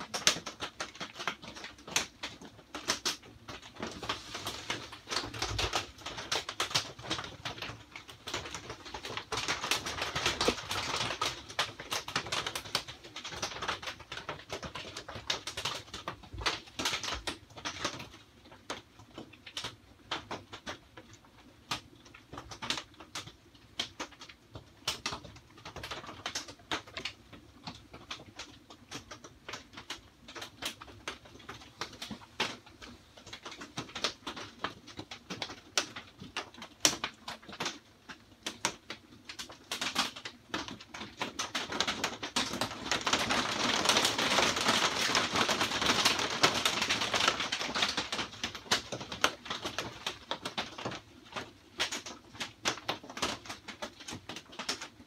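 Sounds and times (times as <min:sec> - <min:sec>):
rain on plastic roof: 0:00.0 - 0:55.0.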